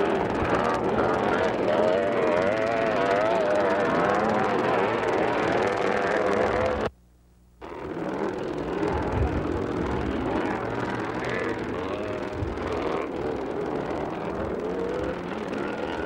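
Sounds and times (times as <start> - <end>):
motocross bike engines revving: 0.0 - 6.9, 7.6 - 16.0.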